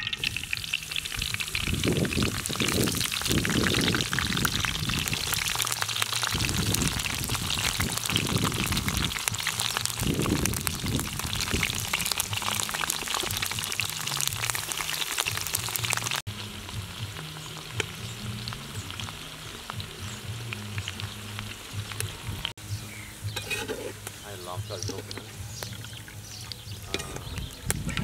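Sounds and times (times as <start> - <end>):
hot oil sizzling in a wok: 0.0 - 28.0.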